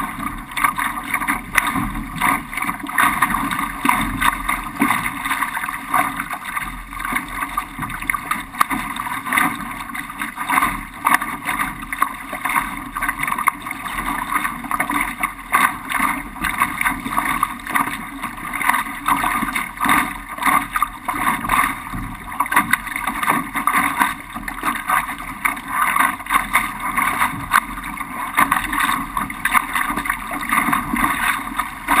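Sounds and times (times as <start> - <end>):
spray splashing against hull: 0.0 - 32.0
water rushing past hull: 0.0 - 32.0.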